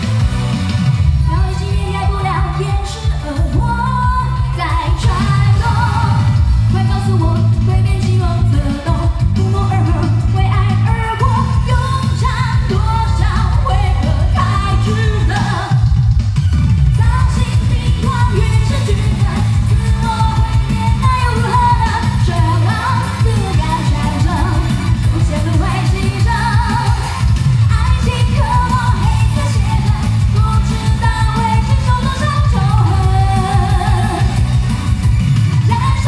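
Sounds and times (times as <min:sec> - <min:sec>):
loud pop accompaniment with bass: 0:00.0 - 0:36.0
woman singing into a microphone: 0:01.2 - 0:16.0, 0:17.0 - 0:34.4, 0:35.6 - 0:36.0.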